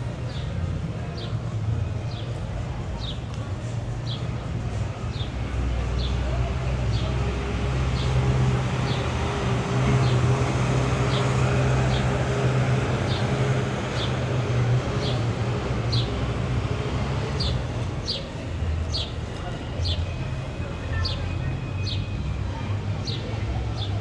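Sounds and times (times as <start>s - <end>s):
vehicle engines humming: 0.0s - 24.0s.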